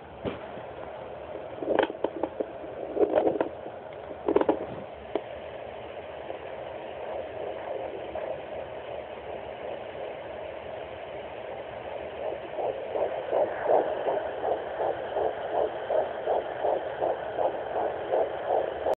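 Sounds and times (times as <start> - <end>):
fast fetal heartbeat pulse: 1.5 - 3.6, 4.2 - 19.0.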